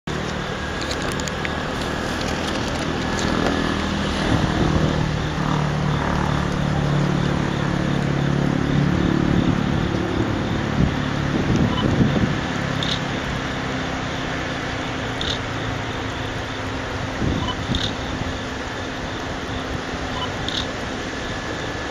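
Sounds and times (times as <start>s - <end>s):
freight train rumbling past: 0.1s - 21.9s.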